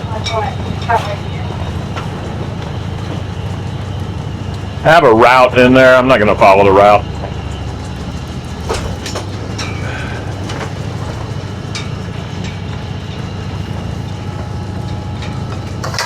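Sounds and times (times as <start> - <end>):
sailboat low rumble: 0.0 - 16.0.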